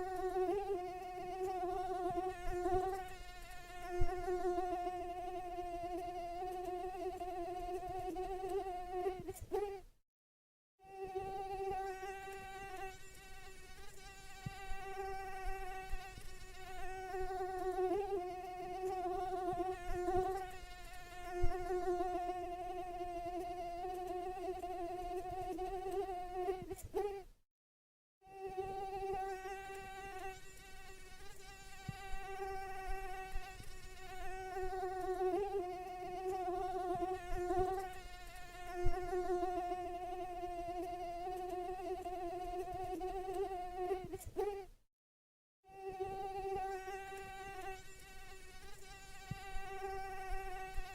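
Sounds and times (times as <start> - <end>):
mosquito whine: 0.0 - 9.8, 10.8 - 27.3, 28.2 - 44.7, 45.7 - 50.9.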